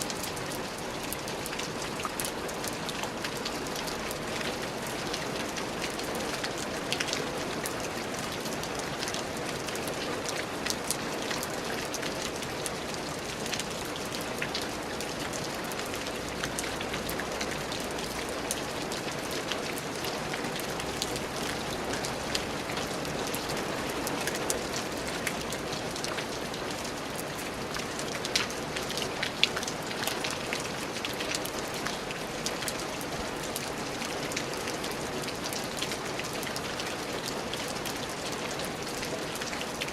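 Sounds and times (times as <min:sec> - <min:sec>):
raindrops ticking on a surface: 0:00.0 - 0:39.9
steady rain falling: 0:00.0 - 0:39.9.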